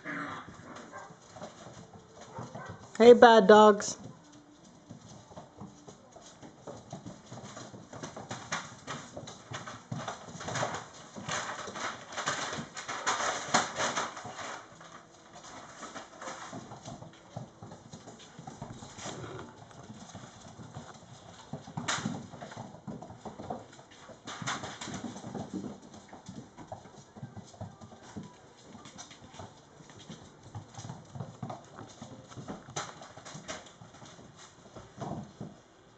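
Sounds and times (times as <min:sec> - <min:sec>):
puppy claws clicking on wooden floor: 0:04.0 - 0:35.6.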